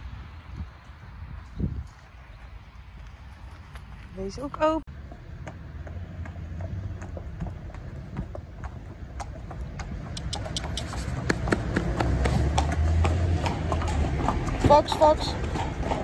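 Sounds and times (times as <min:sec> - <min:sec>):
road traffic hum: 0:00.0 - 0:16.0
hooves clip-clopping on brick: 0:00.6 - 0:16.0.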